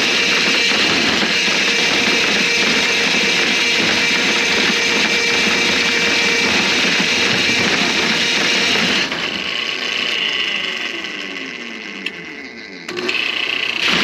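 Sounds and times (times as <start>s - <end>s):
drain-cleaning machine running: 0.0s - 14.0s.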